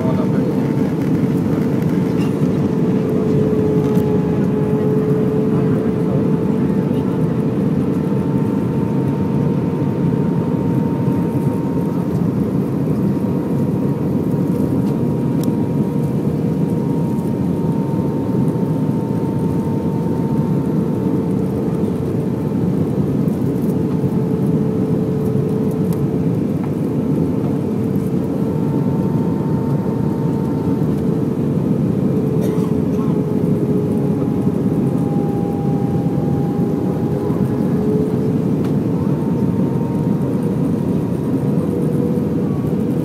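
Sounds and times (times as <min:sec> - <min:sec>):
jet engine and airflow roar: 0:00.0 - 0:43.0.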